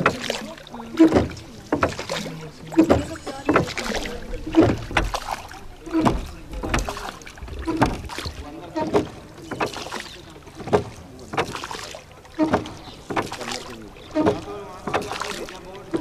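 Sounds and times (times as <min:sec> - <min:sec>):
oars knocking and creaking: 0:00.0 - 0:16.0.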